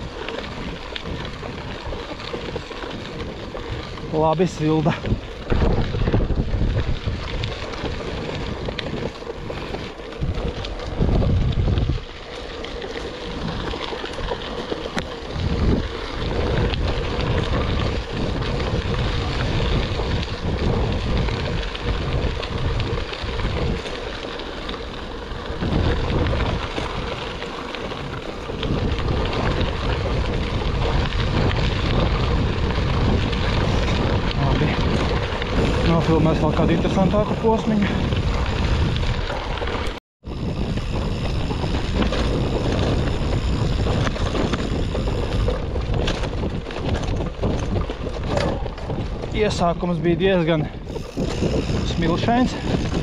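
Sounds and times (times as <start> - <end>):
tyre rumble on dirt track: 0.0 - 53.0
wind buffeting microphone: 0.0 - 53.0.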